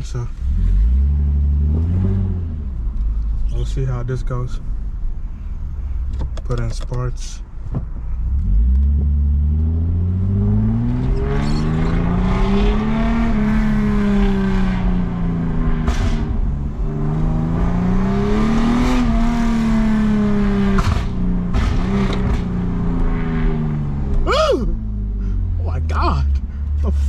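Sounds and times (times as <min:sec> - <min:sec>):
car engine accelerating: 0:00.0 - 0:06.6, 0:08.0 - 0:27.0.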